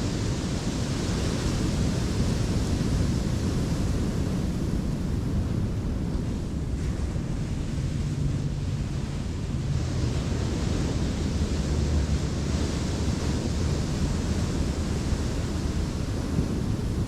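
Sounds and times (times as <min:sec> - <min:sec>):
ocean surf: 0:00.0 - 0:17.0
wind buffeting microphone: 0:00.0 - 0:17.0.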